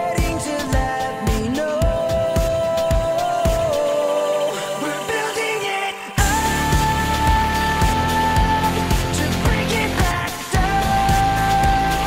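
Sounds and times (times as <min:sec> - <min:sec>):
pop music with kick drum beat: 0:00.0 - 0:12.0.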